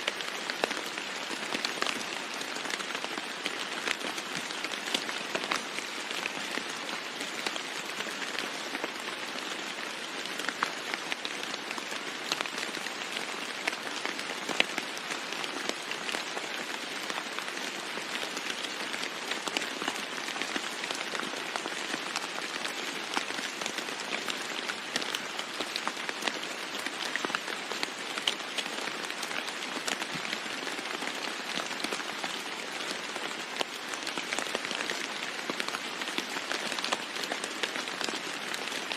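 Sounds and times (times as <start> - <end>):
rain falling on a roof: 0.0 - 38.9.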